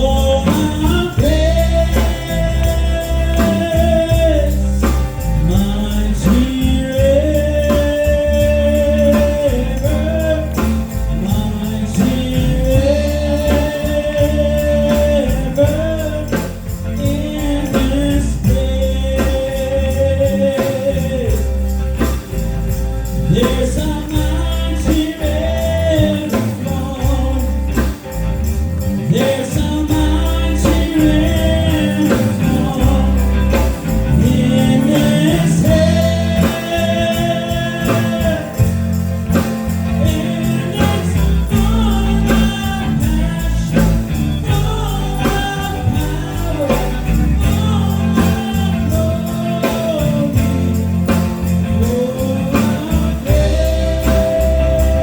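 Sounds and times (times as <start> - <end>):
gospel band playing: 0.0 - 55.0
jingling tambourine: 0.0 - 55.0
person singing: 0.0 - 55.0.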